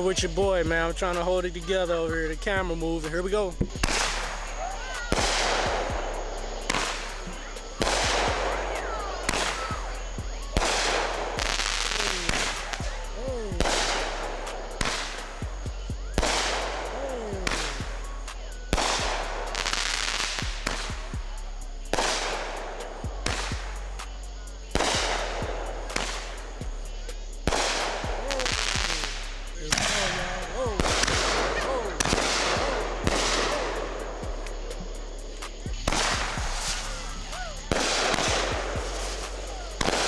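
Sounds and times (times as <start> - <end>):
fireworks bangs: 0.0 - 40.0
rumble after bangs: 0.0 - 40.0.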